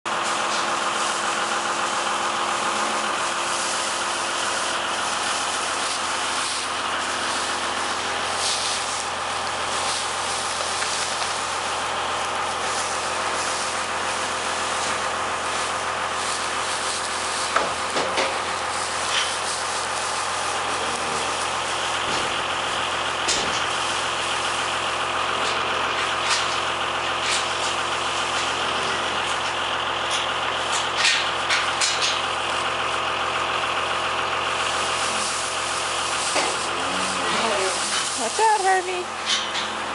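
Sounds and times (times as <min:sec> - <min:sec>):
machine humming steadily: 0:00.1 - 0:39.9.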